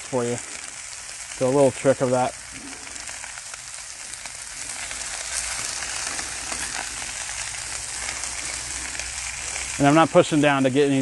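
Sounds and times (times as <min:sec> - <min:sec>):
steak sizzling on griddle: 0:00.0 - 0:11.0.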